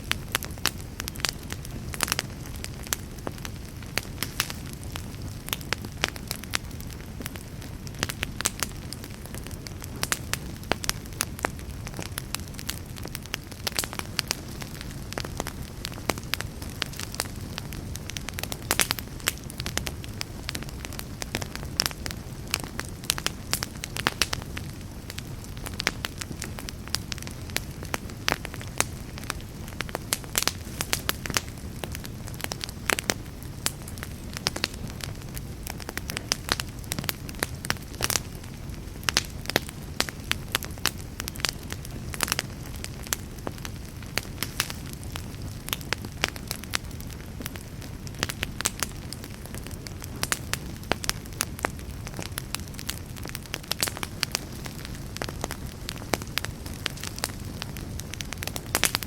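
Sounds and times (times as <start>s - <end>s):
fire crackling and popping: 0.0s - 59.0s
low rumble of flame: 0.0s - 59.0s.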